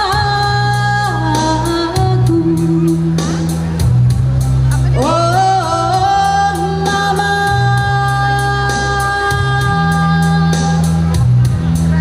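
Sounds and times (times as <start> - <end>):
backing music with drum beat: 0.0 - 12.0.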